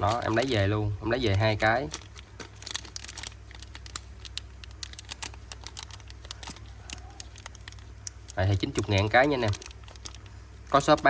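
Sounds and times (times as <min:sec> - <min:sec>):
low steady hum: 0:00.0 - 0:11.0
packaging crinkling: 0:00.0 - 0:11.0.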